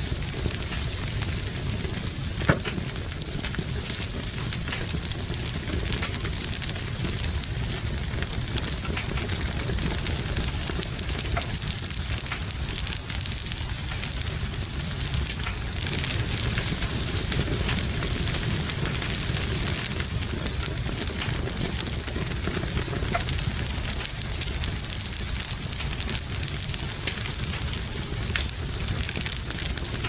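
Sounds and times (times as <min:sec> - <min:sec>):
rain hissing: 0:00.0 - 0:30.0
wood fire crackling: 0:00.0 - 0:30.0.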